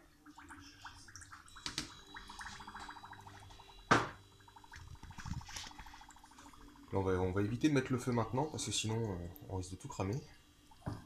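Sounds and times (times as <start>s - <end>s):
water trickling onto sugar: 0.0s - 3.8s, 4.4s - 10.9s.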